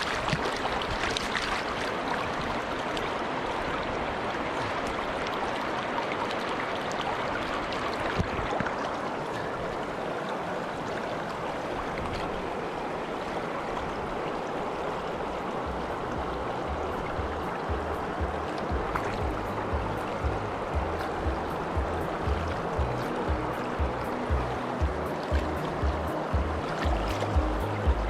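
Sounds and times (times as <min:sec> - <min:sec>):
river water rushing over riffles: 0:00.0 - 0:28.0.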